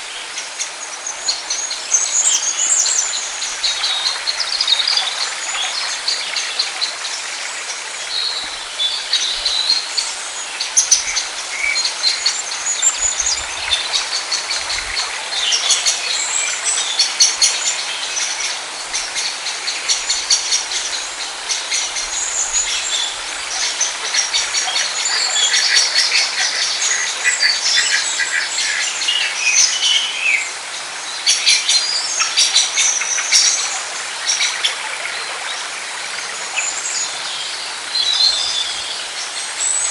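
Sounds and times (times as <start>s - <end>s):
outdoor background hiss: 0.0s - 39.9s
wild birds chirping and singing: 0.0s - 39.9s.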